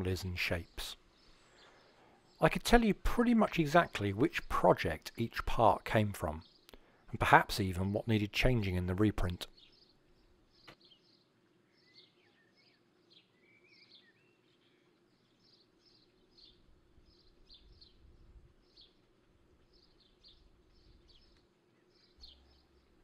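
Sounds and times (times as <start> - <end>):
faint birdsong chirps: 0.0 - 23.0
low steady hum: 0.0 - 23.0.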